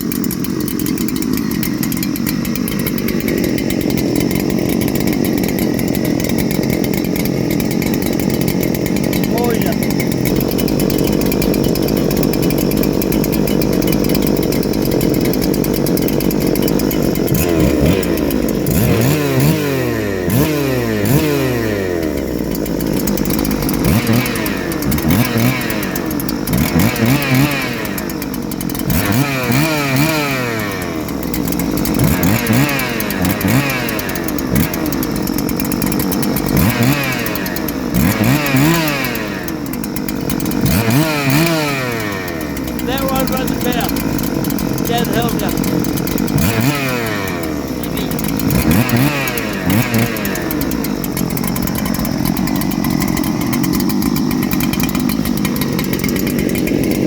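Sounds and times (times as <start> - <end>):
chainsaw engine revving: 0.0 - 57.0.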